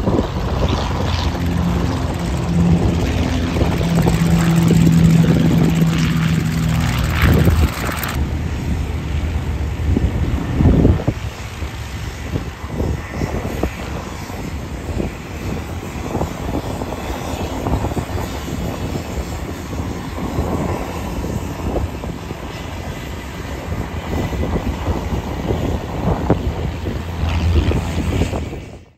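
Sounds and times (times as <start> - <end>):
propeller airplane engine: 0.0 - 28.9.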